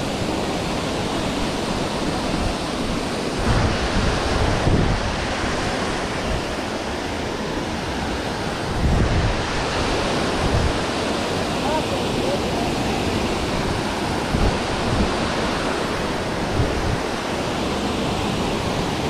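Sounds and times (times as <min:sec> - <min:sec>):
waterfall rushing: 0:00.0 - 0:19.0
wind buffeting microphone: 0:00.0 - 0:19.0.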